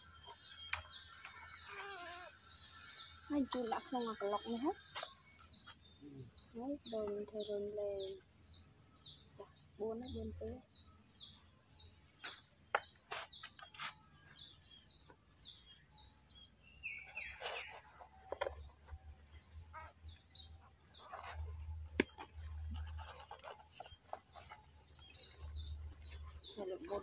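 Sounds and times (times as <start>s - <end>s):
small bird chirping: 0.0s - 27.0s.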